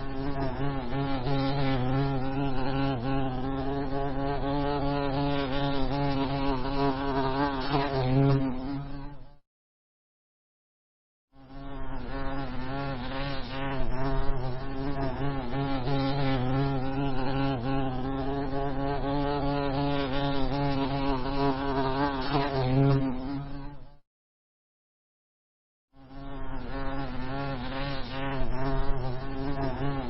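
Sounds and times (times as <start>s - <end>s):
honey bee buzzing: 0.0s - 9.4s, 11.4s - 24.0s, 26.0s - 30.0s.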